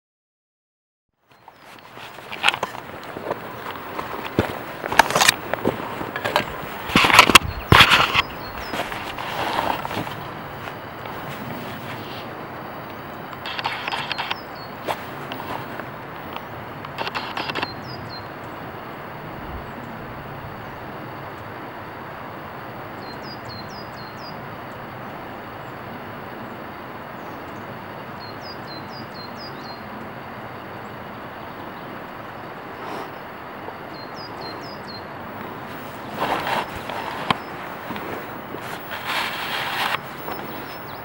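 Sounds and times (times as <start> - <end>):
songbird singing: 1.2 - 41.0
rushing background noise: 1.3 - 41.0.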